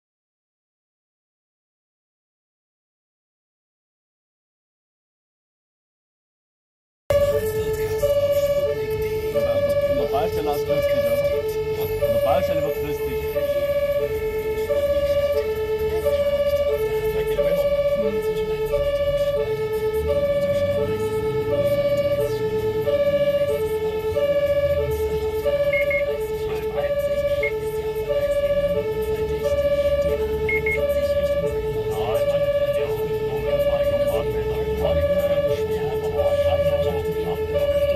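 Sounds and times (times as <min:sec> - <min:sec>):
two-tone siren: 0:07.1 - 0:37.9
vehicle engine and tyre rumble: 0:07.1 - 0:37.9.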